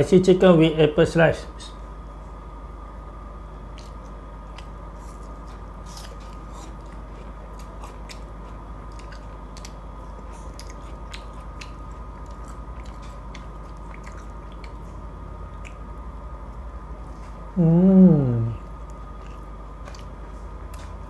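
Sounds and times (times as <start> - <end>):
steady low hum: 0.0 - 21.0
chewing with crunches: 2.9 - 17.5, 18.5 - 21.0.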